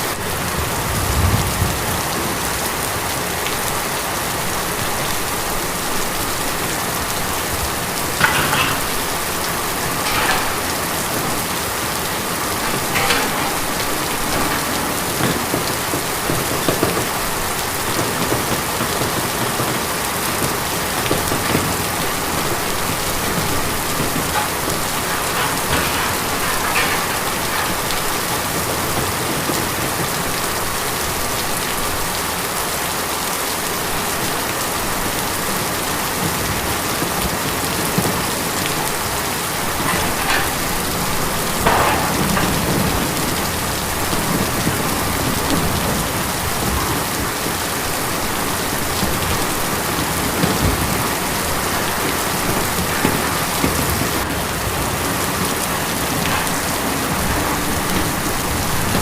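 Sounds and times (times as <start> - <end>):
rain drumming on a tin roof: 0.0 - 59.0.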